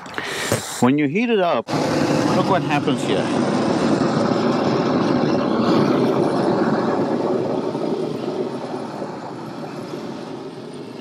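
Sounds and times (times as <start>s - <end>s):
torch flame rushing: 1.5s - 11.0s.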